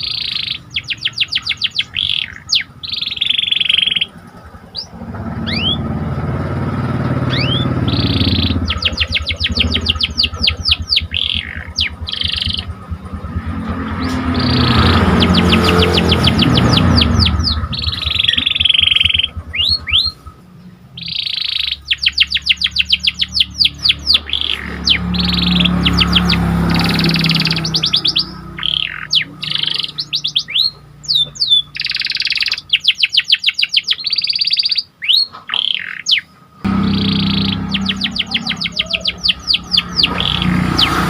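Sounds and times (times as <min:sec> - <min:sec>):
canary singing trills: 0:00.0 - 0:41.0.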